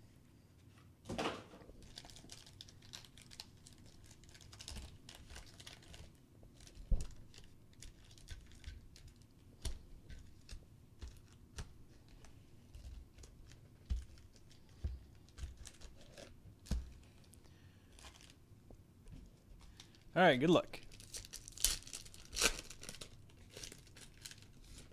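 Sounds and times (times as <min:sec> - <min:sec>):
foil wrappers crinkling: 0:01.7 - 0:18.4, 0:19.6 - 0:20.1, 0:20.7 - 0:24.9.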